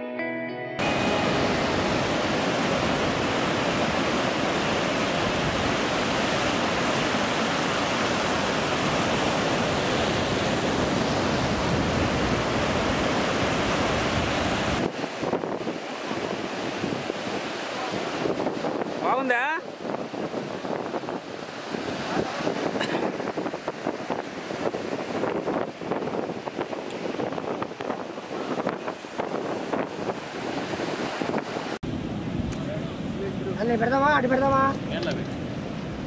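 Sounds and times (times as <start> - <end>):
surf breaking on beach: 0.8 - 36.0
wind gusts on microphone: 0.8 - 36.0.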